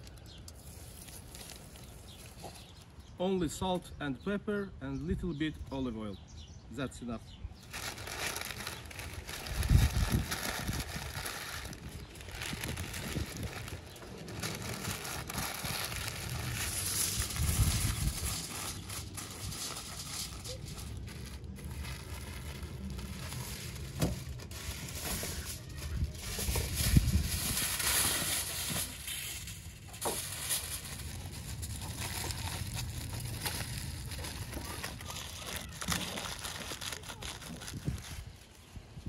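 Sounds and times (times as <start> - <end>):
aluminium foil crinkling: 0.0 - 3.0, 7.6 - 38.8.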